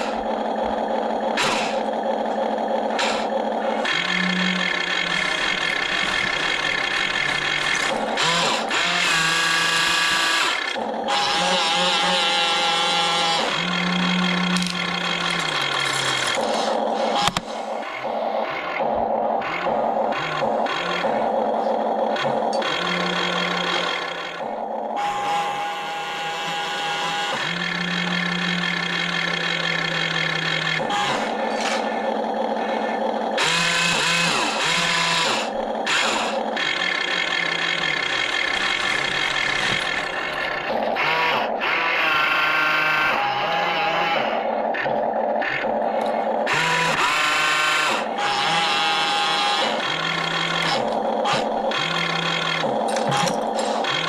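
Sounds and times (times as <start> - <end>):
toy excavator motors whining: 0.0 - 54.0.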